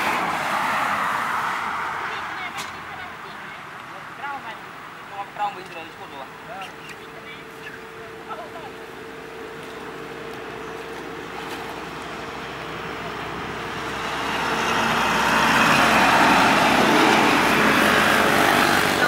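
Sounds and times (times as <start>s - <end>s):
vehicle engine passing: 0.0s - 19.0s.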